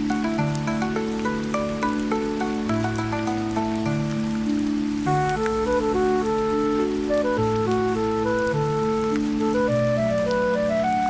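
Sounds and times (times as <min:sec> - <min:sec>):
gentle instrumental music: 0:00.0 - 0:11.0
rain falling: 0:00.0 - 0:11.0.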